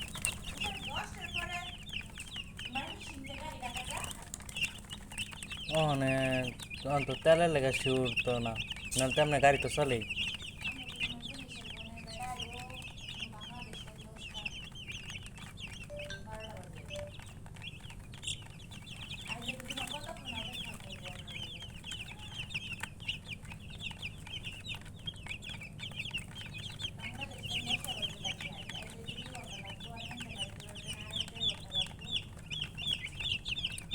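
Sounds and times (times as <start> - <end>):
chicks peeping: 0.0 - 33.9
lower chick calls: 0.0 - 33.9.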